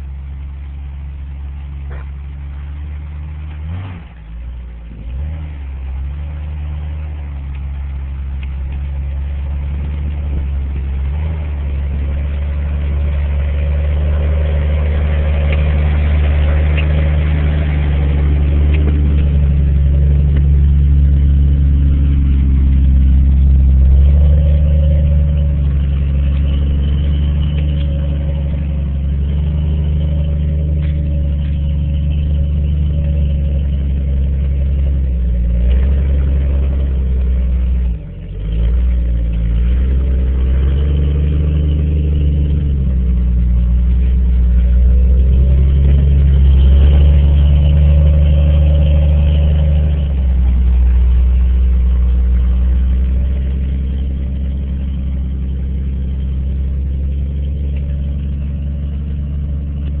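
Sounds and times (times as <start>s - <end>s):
car engine running under load: 0.0s - 60.0s.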